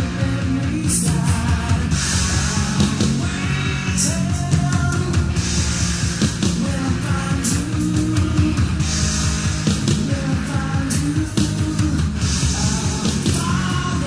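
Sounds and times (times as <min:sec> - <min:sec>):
distorted electric guitars: 0:00.0 - 0:14.0
drums with crashing cymbals: 0:00.0 - 0:14.0
person singing: 0:00.0 - 0:14.0.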